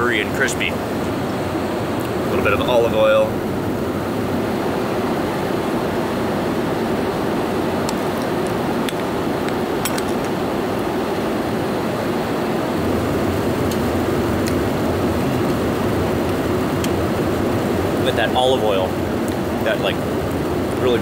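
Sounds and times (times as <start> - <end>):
airliner cabin noise: 0.0 - 21.0.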